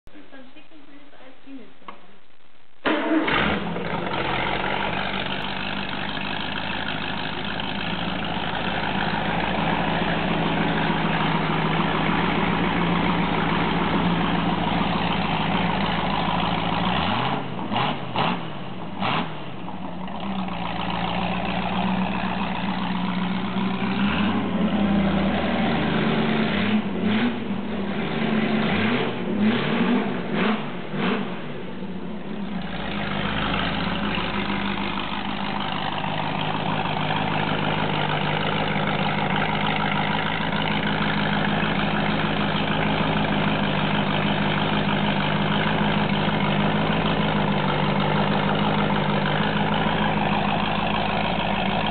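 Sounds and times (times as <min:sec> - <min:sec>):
car engine idling and revving: 0:02.7 - 0:51.9.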